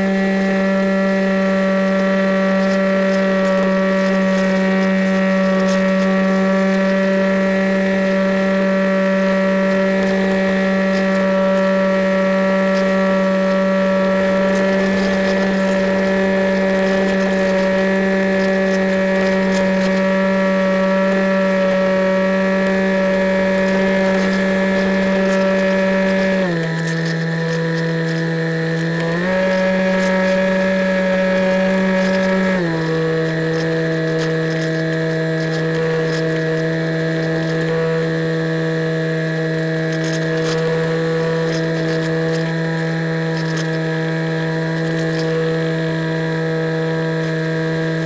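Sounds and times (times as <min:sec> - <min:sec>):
model plane motor whine: 0:00.0 - 0:48.0.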